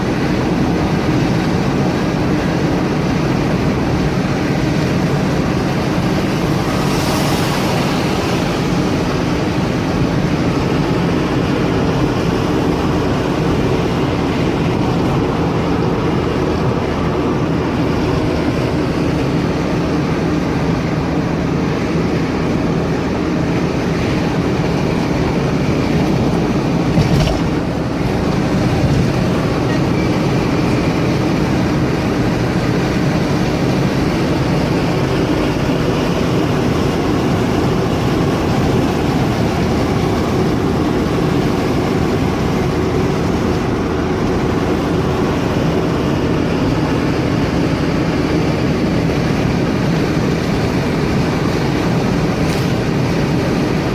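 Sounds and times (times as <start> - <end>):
vehicle engine and road noise: 0.0 - 53.9.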